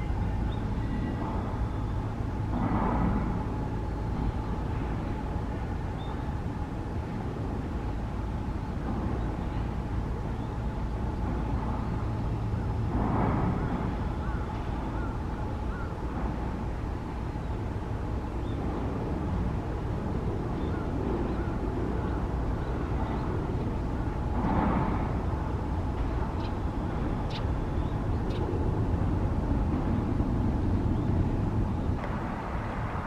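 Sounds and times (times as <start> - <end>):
distant jet engine rumble: 0.0 - 33.0.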